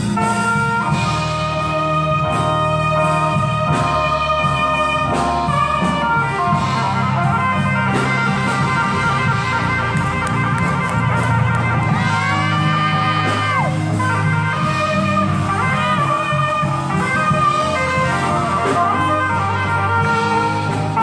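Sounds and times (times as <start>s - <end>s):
musical accompaniment: 0.0s - 21.0s
saxophone playing gospel melody: 0.0s - 21.0s.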